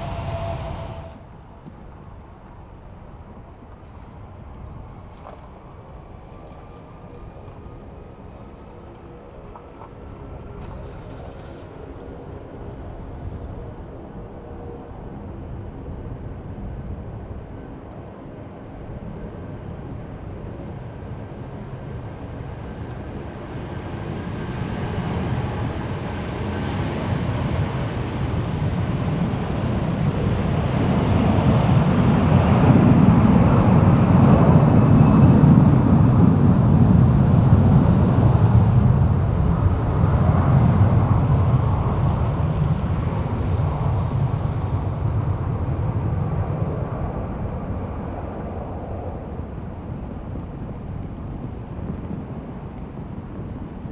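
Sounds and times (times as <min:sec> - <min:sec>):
jet airliner passing: 0:00.0 - 0:53.9.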